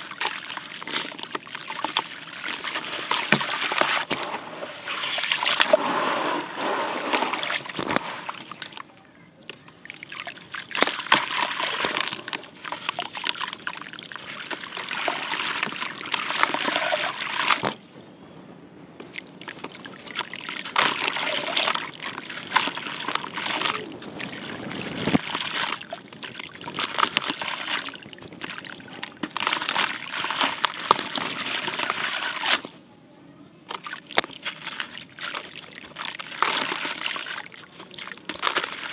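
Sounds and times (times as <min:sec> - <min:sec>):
clay squeezed in muddy water: 0:00.0 - 0:08.9, 0:09.5 - 0:17.8, 0:19.1 - 0:32.7, 0:33.7 - 0:38.9.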